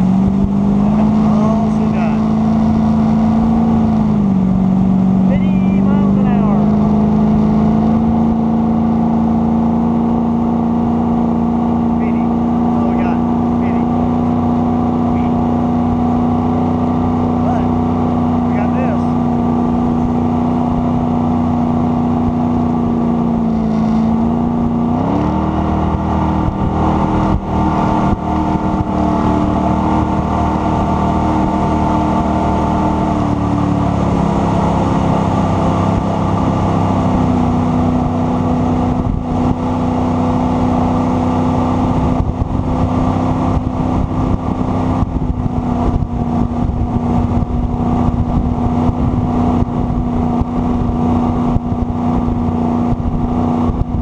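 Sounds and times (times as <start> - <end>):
jet boat engine running: 0.0 - 54.0
water rushing: 0.0 - 54.0
wind: 0.0 - 54.0.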